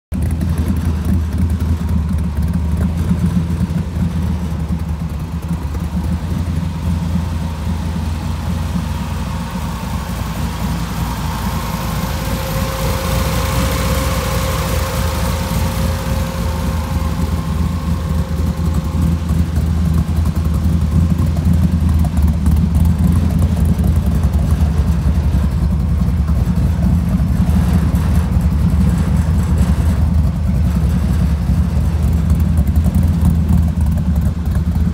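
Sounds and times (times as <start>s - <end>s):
engine idling: 0.1s - 34.9s
faint steady whine: 0.2s - 34.9s.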